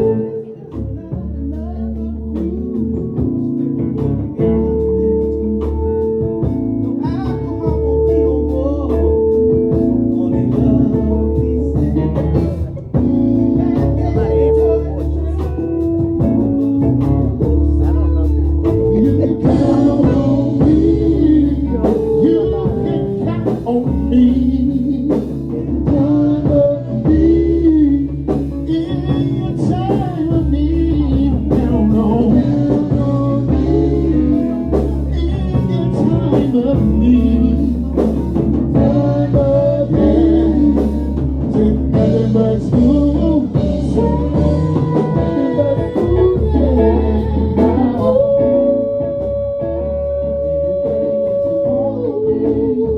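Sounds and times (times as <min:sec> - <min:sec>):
bass: 0:00.0 - 0:52.9
drums: 0:00.0 - 0:52.9
guitar lead: 0:00.0 - 0:52.9.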